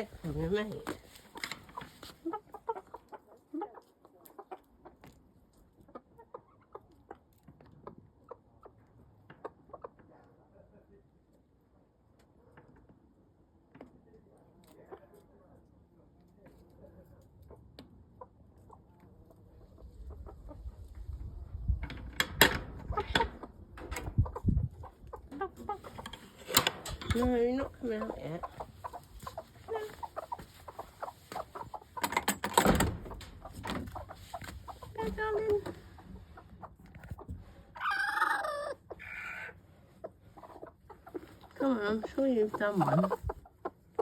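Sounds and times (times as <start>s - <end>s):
chickens clucking: 0.0s - 10.4s, 16.4s - 21.8s, 22.7s - 44.0s.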